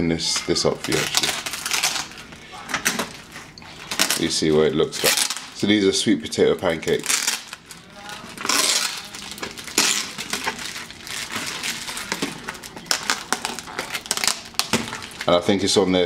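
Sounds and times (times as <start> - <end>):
plastic film crinkling: 0.0 - 15.8.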